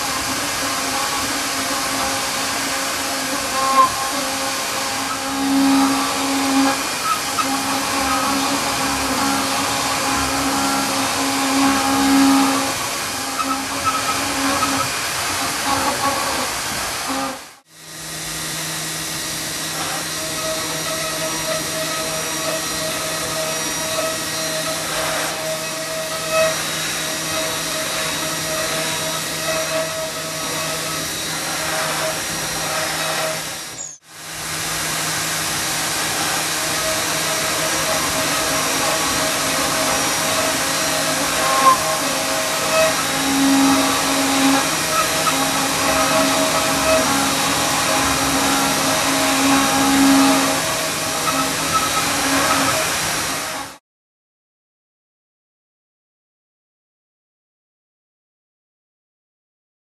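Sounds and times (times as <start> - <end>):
milling machine cutting metal: 0.0 - 53.8.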